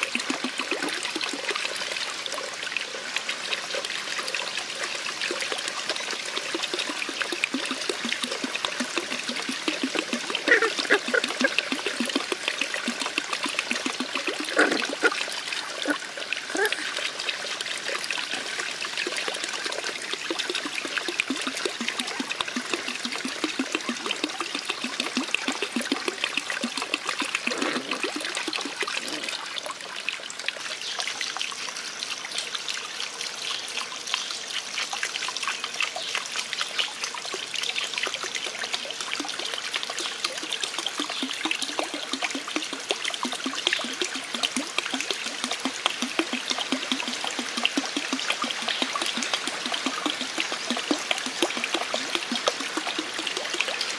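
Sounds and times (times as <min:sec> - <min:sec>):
water trickling and splashing: 0:00.0 - 0:53.9.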